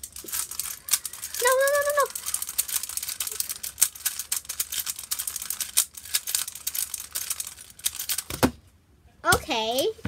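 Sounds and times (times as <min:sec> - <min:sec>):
puzzle cube plastic clicks: 0:00.0 - 0:08.4.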